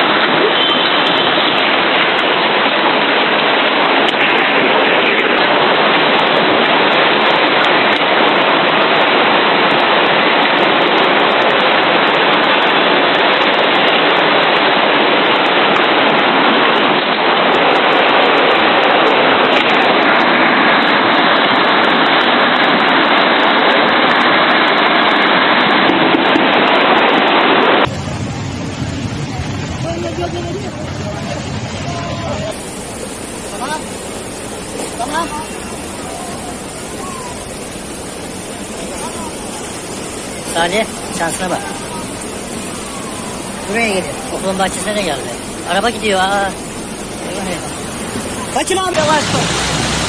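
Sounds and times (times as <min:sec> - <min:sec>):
floodwater rushing: 0:00.0 - 0:50.0.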